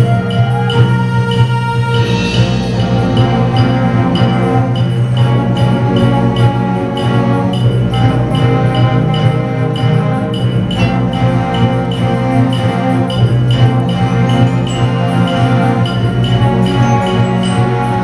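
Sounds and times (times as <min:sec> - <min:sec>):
clarinets and brass chords: 0:00.0 - 0:18.0
steady percussion beat: 0:00.0 - 0:18.0.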